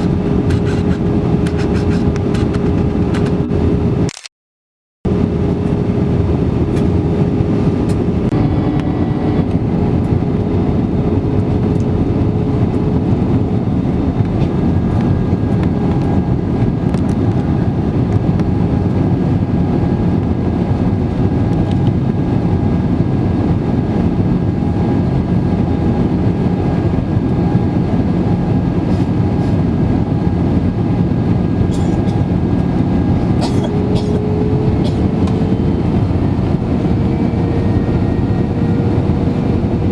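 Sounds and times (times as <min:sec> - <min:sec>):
airliner engines rumbling in cabin: 0:00.0 - 0:04.1, 0:05.1 - 0:39.9.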